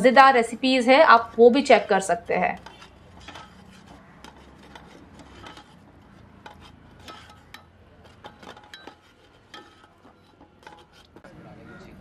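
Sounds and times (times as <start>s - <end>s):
metal ladle scraping pot: 0.0s - 11.3s.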